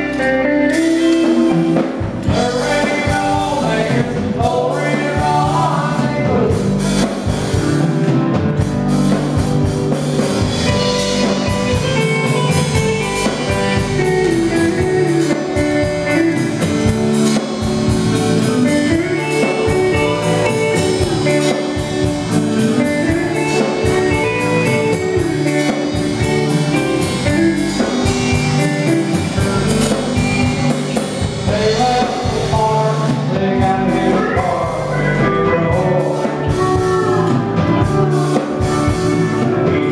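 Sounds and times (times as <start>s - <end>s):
acoustic guitar: 0.0s - 39.9s
steady drum beat: 0.0s - 39.9s.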